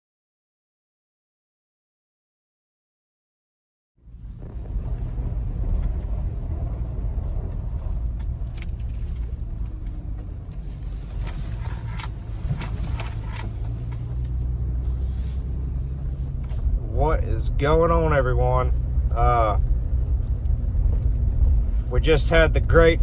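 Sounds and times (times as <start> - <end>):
car engine and road noise: 4.0 - 23.0.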